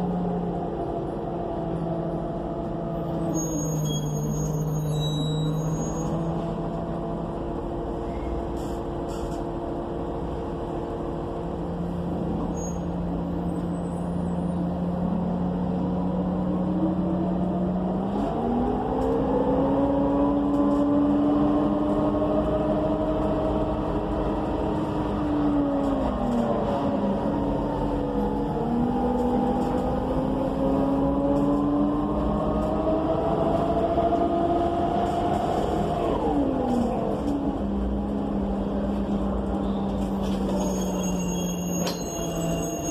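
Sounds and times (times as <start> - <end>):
bus engine accelerating: 0.0 - 42.9.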